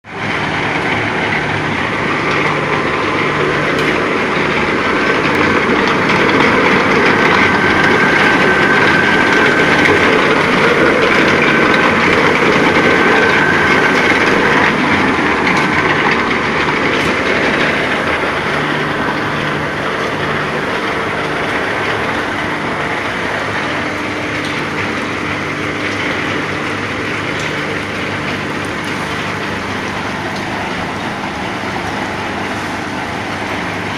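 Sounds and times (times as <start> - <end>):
faint mechanical whine: 0.1 - 33.9
ball mill grinding: 0.8 - 28.4.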